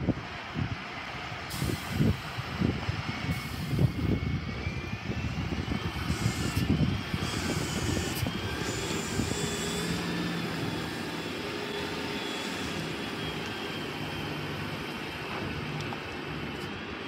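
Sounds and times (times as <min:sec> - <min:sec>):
heavy machinery engine humming: 0:00.1 - 0:17.0.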